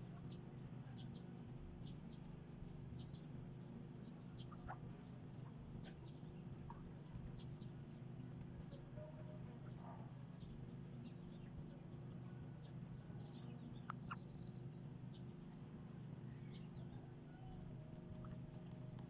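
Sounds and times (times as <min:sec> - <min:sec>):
faint bird chirps: 0:00.0 - 0:19.0
low background hum: 0:00.0 - 0:19.0.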